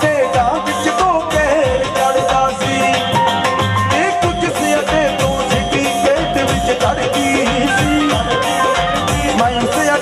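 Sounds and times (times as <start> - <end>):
drum beat: 0.0 - 10.0
live band music: 0.0 - 10.0.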